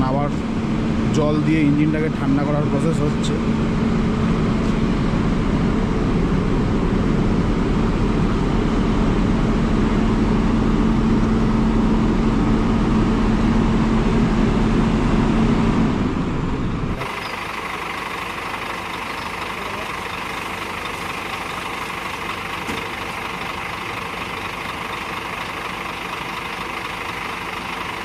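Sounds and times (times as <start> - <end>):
diesel bus engine running: 0.0 - 28.0.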